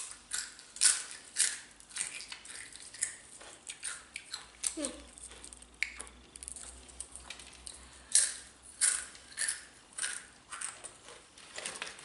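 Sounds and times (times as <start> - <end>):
crisps crunching while chewed: 0.0 - 12.0.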